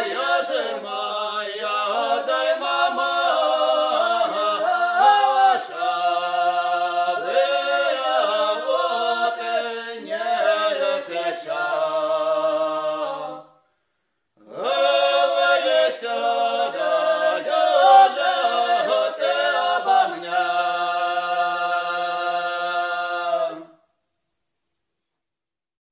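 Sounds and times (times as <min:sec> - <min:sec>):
a cappella choir singing: 0:00.0 - 0:13.6, 0:14.4 - 0:23.8.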